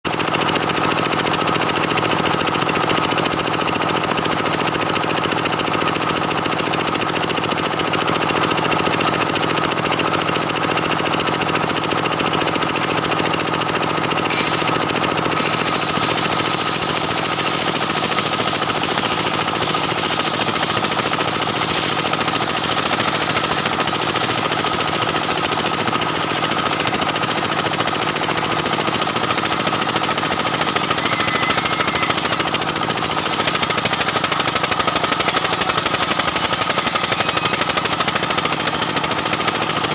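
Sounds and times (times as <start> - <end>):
chainsaw cutting wood: 0.4 - 39.9.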